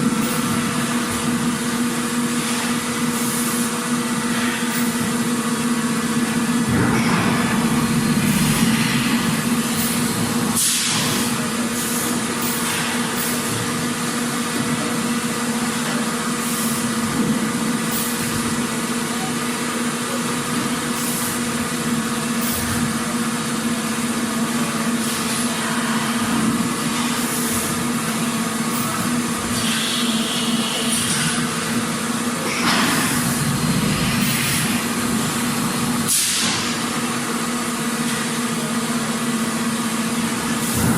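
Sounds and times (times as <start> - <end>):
factory machinery humming: 0.0 - 40.9.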